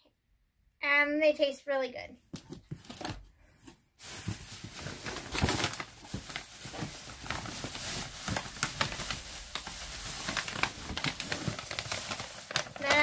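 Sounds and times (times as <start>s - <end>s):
packaging crinkling and rustling: 2.4s - 13.0s.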